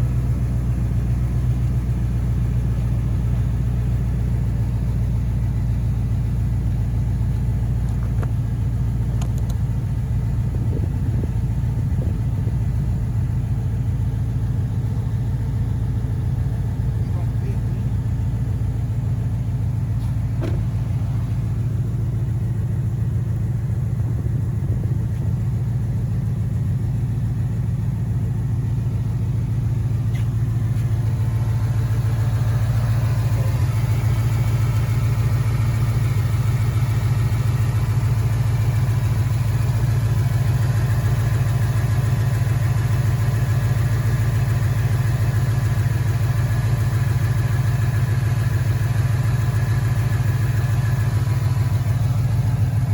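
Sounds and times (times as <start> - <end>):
car engine knocking: 0.0 - 52.9.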